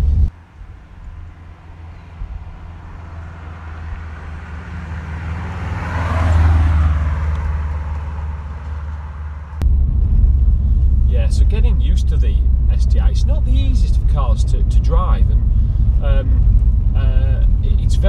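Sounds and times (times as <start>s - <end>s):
car engine driving past: 0.4s - 17.8s.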